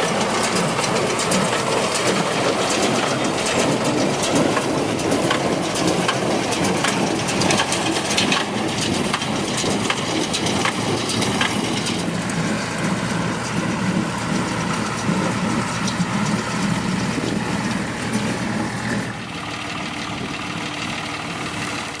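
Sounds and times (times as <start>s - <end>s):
harvesting machine engine running: 0.0s - 22.0s.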